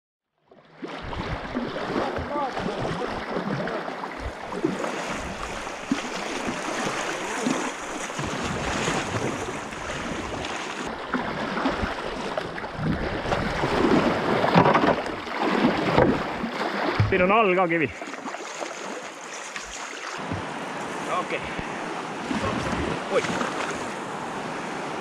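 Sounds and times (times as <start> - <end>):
paddle strokes splashing: 0.5 - 25.0
river water rushing: 0.8 - 25.0.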